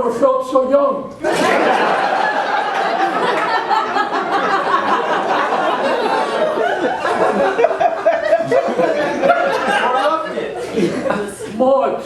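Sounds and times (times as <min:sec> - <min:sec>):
audience laughing: 0:01.2 - 0:11.6.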